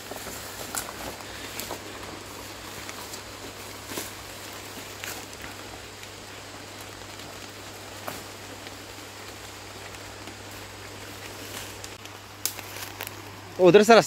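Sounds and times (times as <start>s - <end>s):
faint snaps and rustles: 0.0s - 13.6s
jungle ambience hiss: 0.0s - 14.0s.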